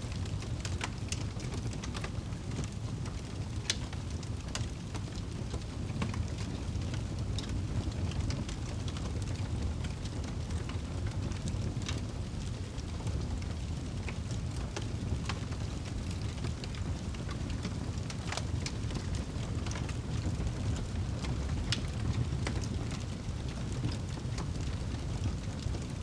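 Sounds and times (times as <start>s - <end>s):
low rumble of fire: 0.0s - 26.0s
logs crackling and popping: 0.1s - 26.0s.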